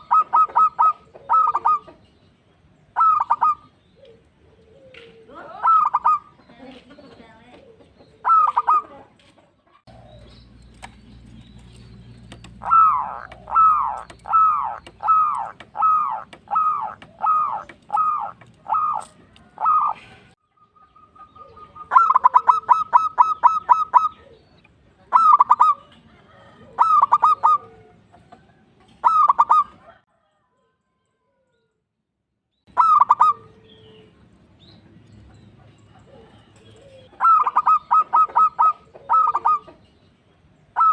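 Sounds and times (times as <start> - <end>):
dove cooing: 0.0 - 2.1, 2.9 - 30.3, 32.7 - 34.2, 35.4 - 39.9.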